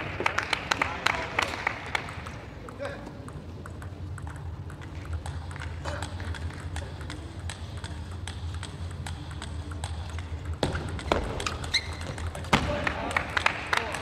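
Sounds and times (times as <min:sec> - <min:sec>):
steady low hum: 0:00.0 - 0:14.0
table tennis balls clicking: 0:01.8 - 0:14.0.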